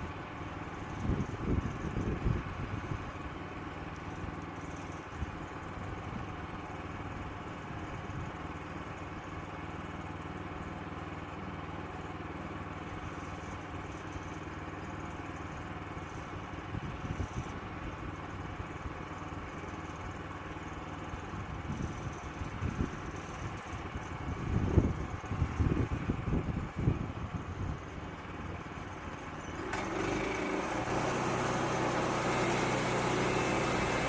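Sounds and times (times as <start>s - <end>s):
sawmill engine running: 0.0s - 34.0s.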